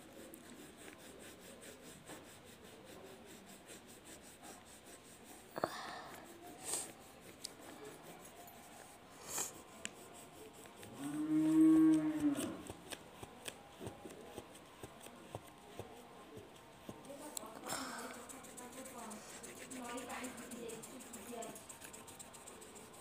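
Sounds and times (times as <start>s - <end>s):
pencil scratching on paper: 0.0s - 23.0s.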